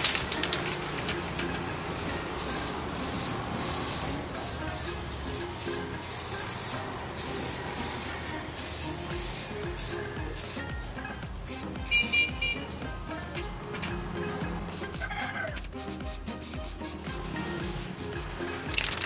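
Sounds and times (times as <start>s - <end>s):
spray-paint can spraying bursts: 0.0s - 1.3s, 2.2s - 19.0s.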